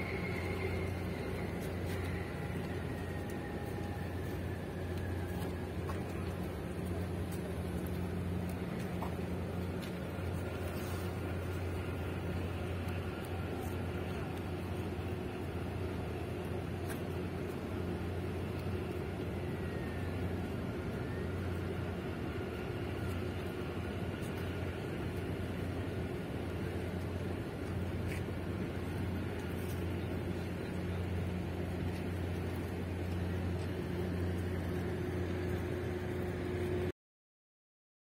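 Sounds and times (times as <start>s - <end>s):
ship engine drone: 0.0s - 36.9s.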